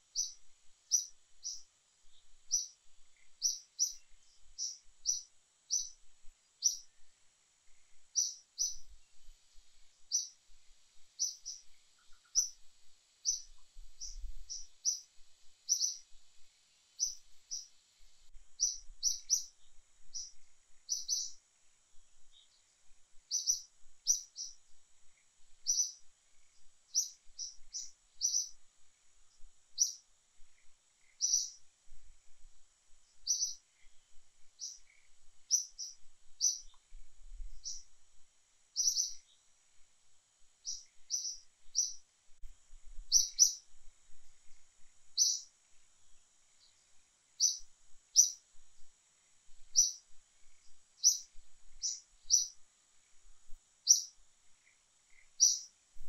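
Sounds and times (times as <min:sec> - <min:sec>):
bird chirping: 0:00.0 - 0:21.4, 0:22.2 - 0:31.7, 0:33.1 - 0:37.9, 0:38.7 - 0:39.5, 0:40.6 - 0:42.1, 0:43.0 - 0:43.7, 0:44.5 - 0:45.5, 0:46.5 - 0:48.4, 0:49.7 - 0:53.2, 0:53.8 - 0:55.8
faint steady hiss: 0:00.0 - 0:56.0.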